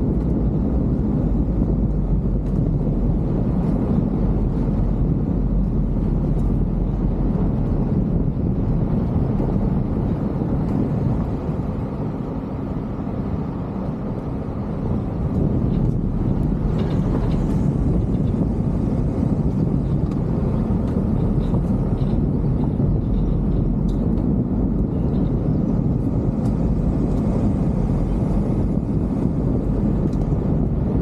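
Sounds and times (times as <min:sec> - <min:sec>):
vehicle rumbling on gravel road: 0:00.0 - 0:31.0.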